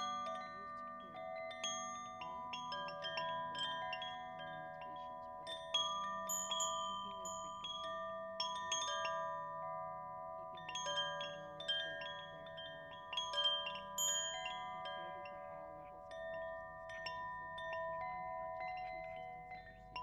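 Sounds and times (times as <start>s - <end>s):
chimes ringing: 0.0s - 20.0s.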